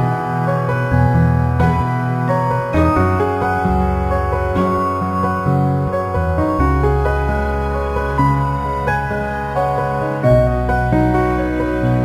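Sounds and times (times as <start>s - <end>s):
soft slow instrumental music: 0.0s - 12.0s.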